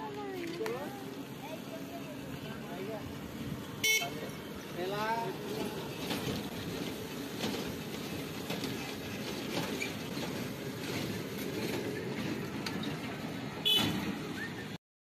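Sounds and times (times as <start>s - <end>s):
bike tyres rumbling on asphalt: 2.2s - 14.8s.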